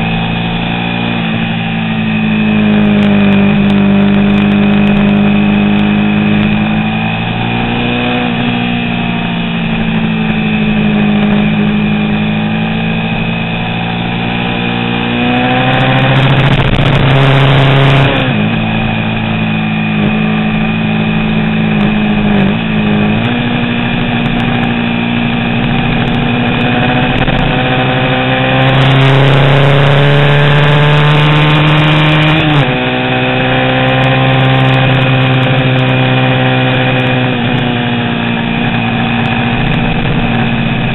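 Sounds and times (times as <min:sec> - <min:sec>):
racing motorcycle engine revving: 0:00.0 - 0:40.9.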